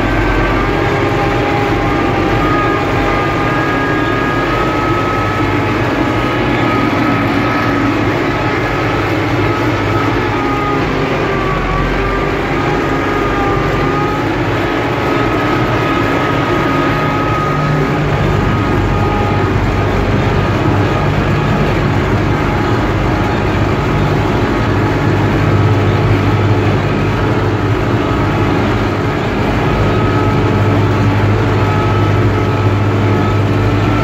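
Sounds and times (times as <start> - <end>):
faint high whine: 0.0 - 34.0
tractor diesel engine droning: 0.0 - 34.0.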